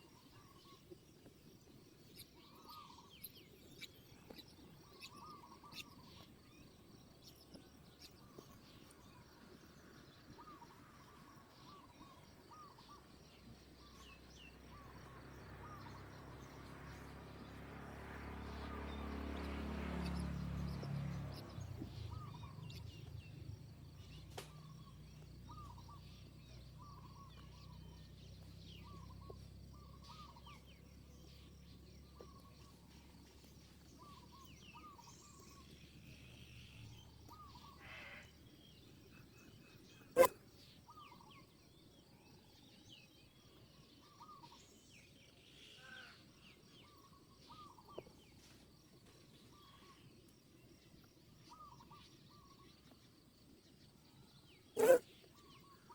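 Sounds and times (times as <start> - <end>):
bird chirping: 0.0 - 48.2, 54.1 - 55.9
outdoor ambience: 0.0 - 55.9.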